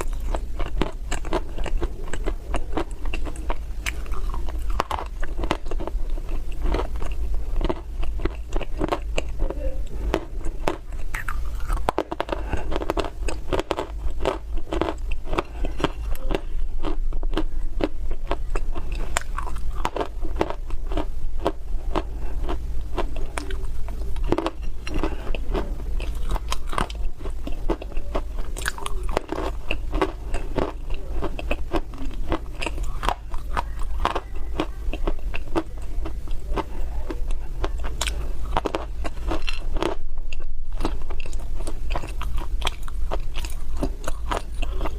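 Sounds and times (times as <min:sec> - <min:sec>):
crunchy biting and chewing: 0:00.0 - 0:44.9
steady low hum: 0:00.0 - 0:44.9.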